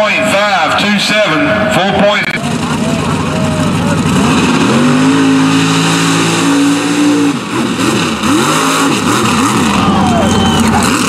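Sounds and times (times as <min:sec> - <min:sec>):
truck engine revving: 0:01.4 - 0:11.0.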